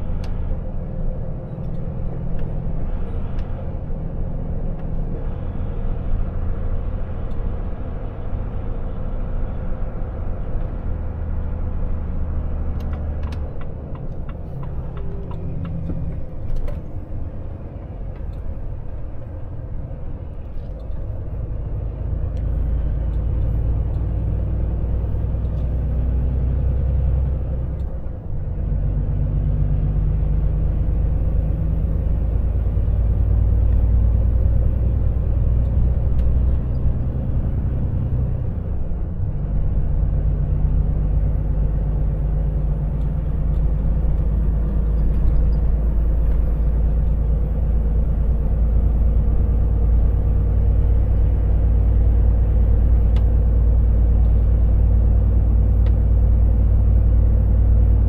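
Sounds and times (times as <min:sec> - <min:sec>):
truck engine drone inside cab: 0:00.0 - 0:58.0.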